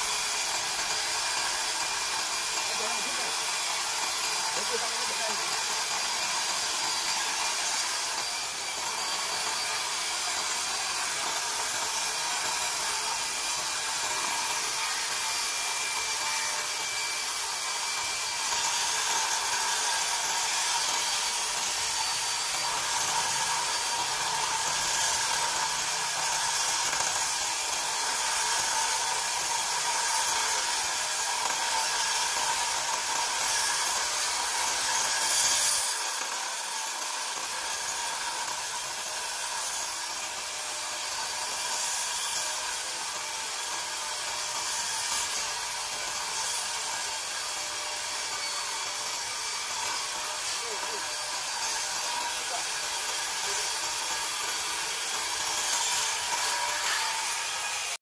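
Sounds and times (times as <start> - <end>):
concrete saw cutting: 0.0 - 58.0.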